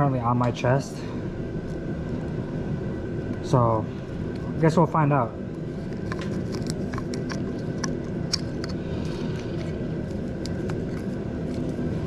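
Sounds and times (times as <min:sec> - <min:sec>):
low rumble with faint hum: 0:00.0 - 0:12.0.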